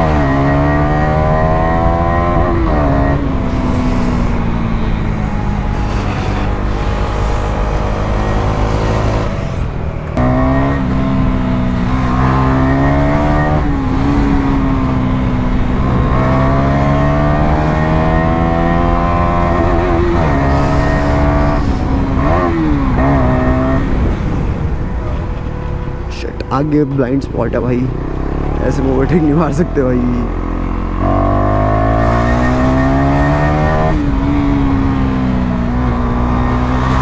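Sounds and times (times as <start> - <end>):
motorcycle engine revving: 0.0 - 26.0, 27.5 - 37.0.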